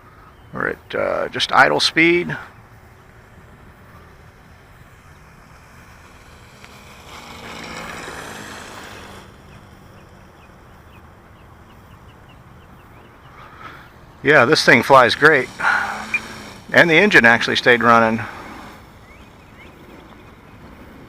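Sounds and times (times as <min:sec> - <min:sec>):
model plane engine idling: 0:00.1 - 0:21.0
rushing of plane passing: 0:00.5 - 0:21.0.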